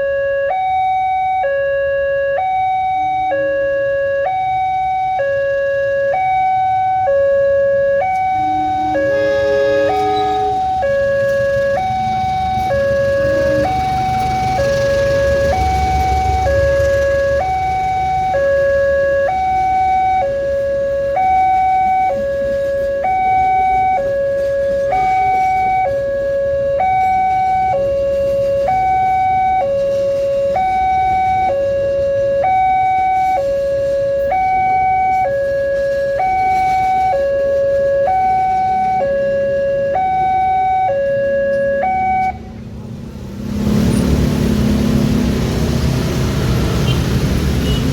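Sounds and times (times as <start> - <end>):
two-tone crossing alarm: 0.0 - 42.7, 46.4 - 47.9.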